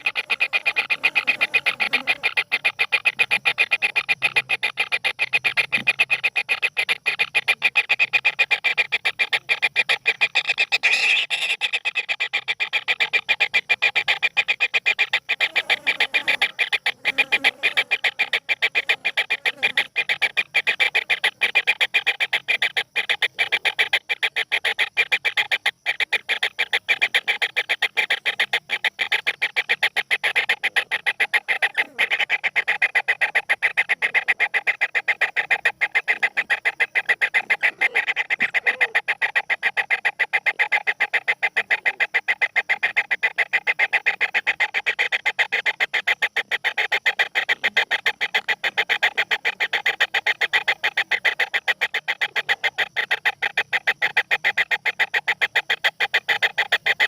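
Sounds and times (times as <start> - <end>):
bird chatter clicking notes: 0.0 - 57.0.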